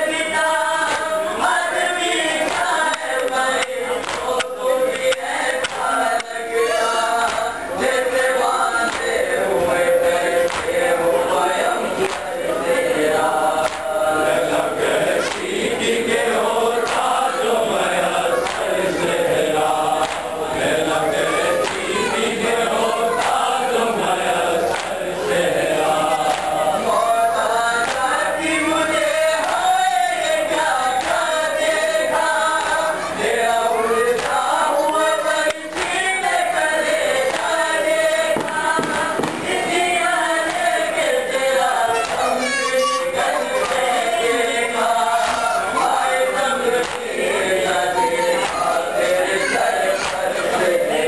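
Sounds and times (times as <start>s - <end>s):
men chanting a lament: 0.0s - 51.0s.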